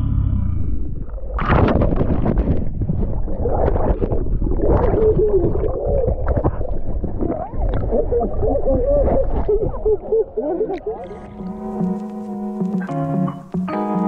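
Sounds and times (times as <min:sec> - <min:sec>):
sea lions warbling underwater: 0:00.0 - 0:13.3
water splashing and bubbling: 0:00.9 - 0:12.6.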